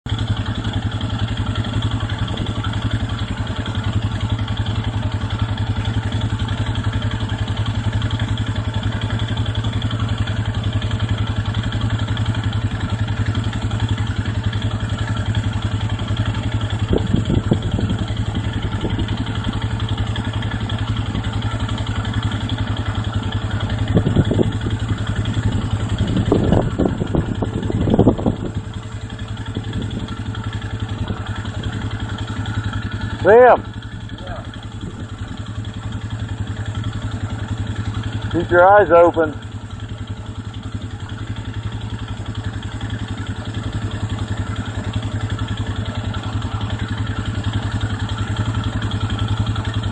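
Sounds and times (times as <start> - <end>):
atv engine idling: 0.0 - 49.9.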